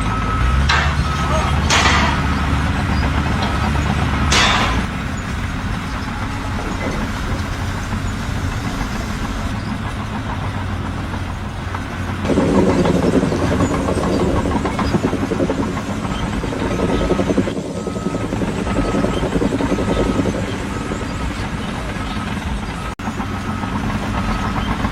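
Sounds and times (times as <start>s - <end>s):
heavy engine running: 0.0s - 24.9s.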